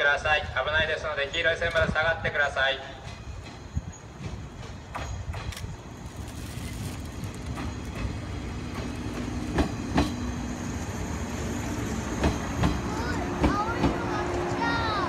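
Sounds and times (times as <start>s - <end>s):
electric train rumbling: 0.3s - 15.0s.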